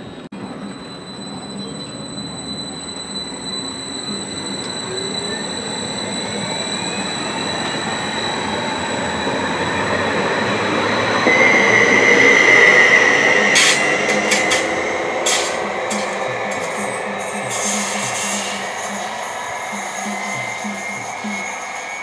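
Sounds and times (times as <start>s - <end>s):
train wheels rumbling on rails: 0.0s - 22.0s
steady high tone: 0.4s - 22.0s.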